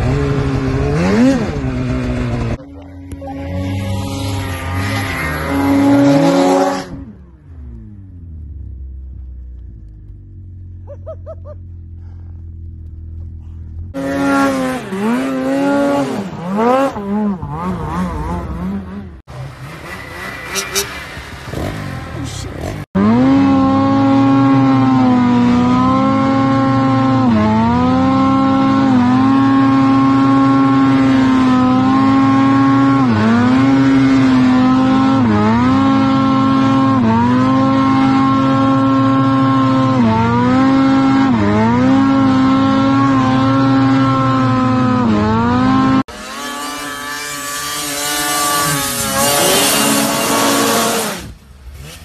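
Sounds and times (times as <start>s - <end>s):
snowmobile engine at high revs: 0.0s - 52.0s.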